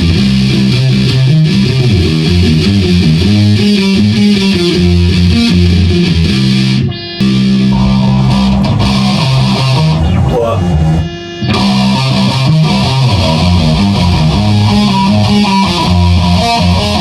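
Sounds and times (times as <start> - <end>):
bass guitar: 0.0 - 17.0
distorted electric guitar: 0.0 - 17.0.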